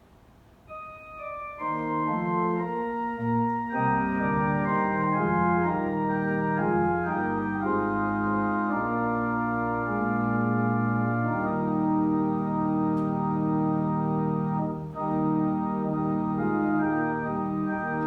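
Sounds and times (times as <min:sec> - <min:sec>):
organ playing chords: 0:00.6 - 0:18.0.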